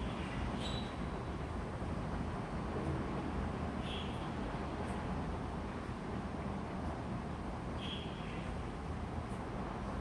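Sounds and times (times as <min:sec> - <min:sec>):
low background hum and hiss: 0:00.0 - 0:10.0.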